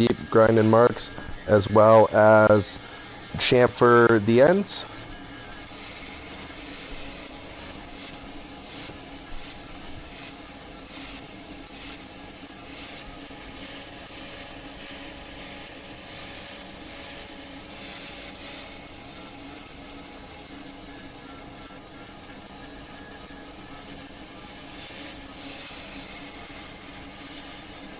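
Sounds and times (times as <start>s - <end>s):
angle grinder grinding steel: 0.0s - 13.6s, 18.6s - 27.9s.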